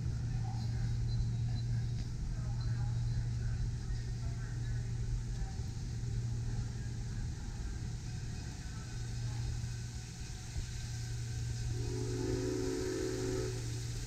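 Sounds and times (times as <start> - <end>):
low mechanical hum: 0.0 - 14.0
outdoor background noise: 0.0 - 14.0.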